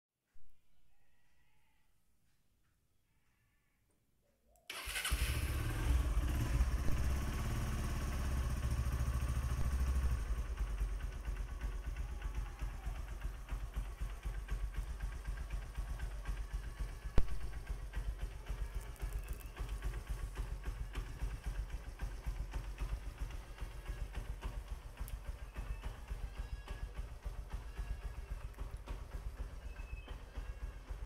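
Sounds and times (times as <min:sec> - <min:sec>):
motorcycle engine starting and idling: 0:04.7 - 0:31.0.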